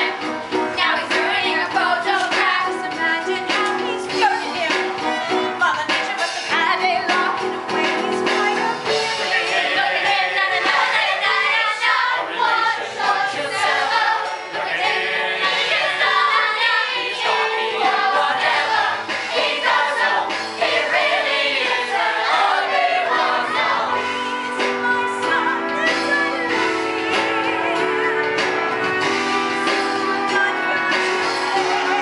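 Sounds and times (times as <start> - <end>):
group singing: 0.0 - 4.4, 8.6 - 32.0
instrumental accompaniment: 0.0 - 32.0.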